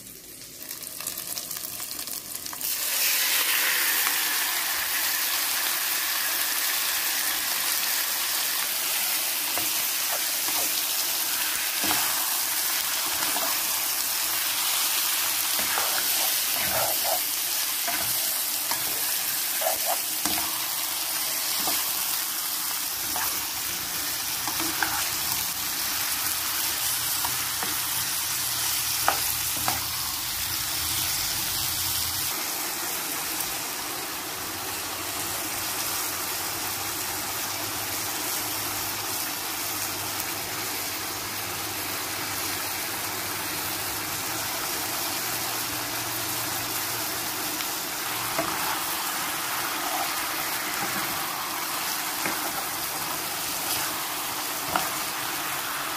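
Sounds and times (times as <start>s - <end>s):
chicken sizzling in frying pan: 0.0s - 55.9s.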